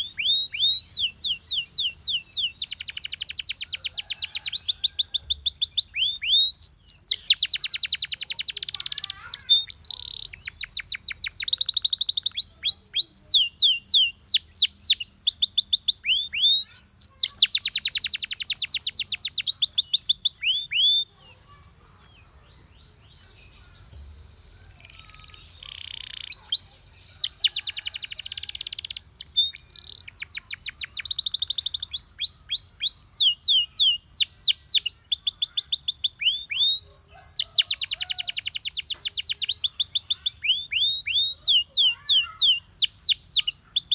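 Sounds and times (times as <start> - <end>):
canary singing in fast trills: 0.0 - 43.9
faint bird chirps: 0.0 - 43.9.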